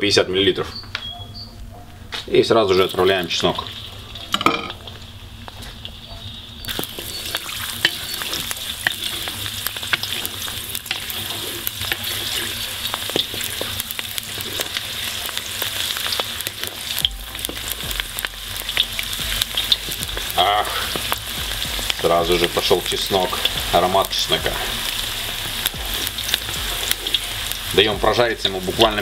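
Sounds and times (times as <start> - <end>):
garlic sizzling in oil: 2.6 - 29.0.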